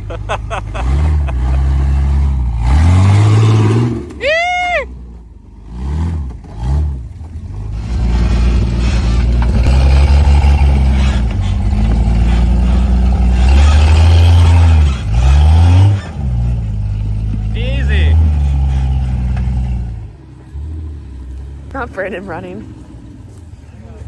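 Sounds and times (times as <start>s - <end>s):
engine revving hard: 0.0s - 4.3s, 5.6s - 23.2s.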